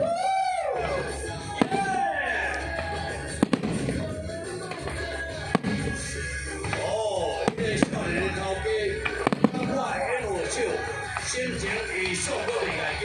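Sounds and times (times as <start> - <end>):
fireworks bursting: 0.0 - 13.0
music with singing: 0.0 - 13.0.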